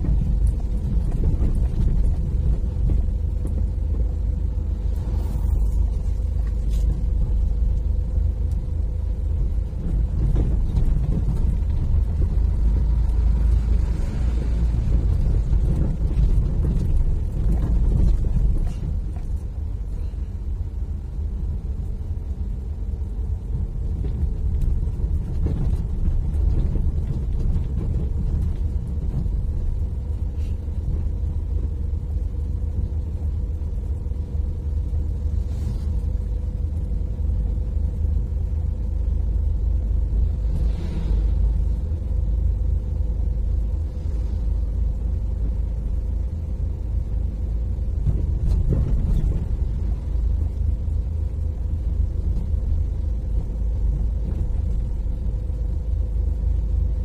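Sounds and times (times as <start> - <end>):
engine and tyre rumble: 0.0 - 57.0
faint steady whine: 0.0 - 57.0.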